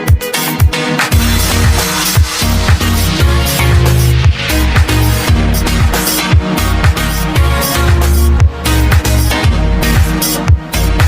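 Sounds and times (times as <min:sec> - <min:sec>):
electronic dance music: 0:00.0 - 0:11.0
bass line: 0:01.1 - 0:11.0
steady kick drum: 0:01.1 - 0:11.0.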